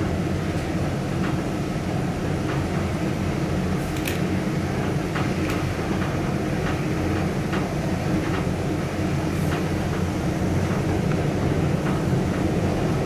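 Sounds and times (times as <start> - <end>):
elevator low rumble: 0.0 - 13.0.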